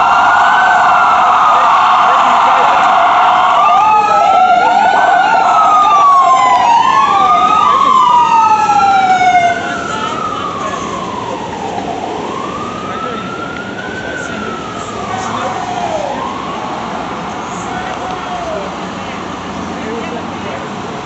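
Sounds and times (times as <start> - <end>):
ambulance sirens wailing: 0.0 - 21.0.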